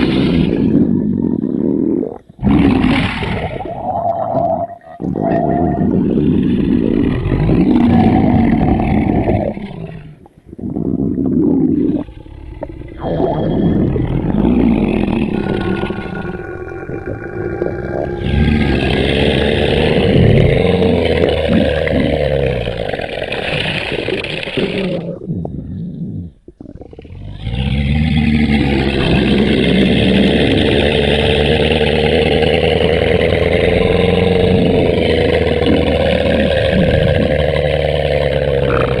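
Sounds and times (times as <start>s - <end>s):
stomach rumbling: 0.0s - 39.0s.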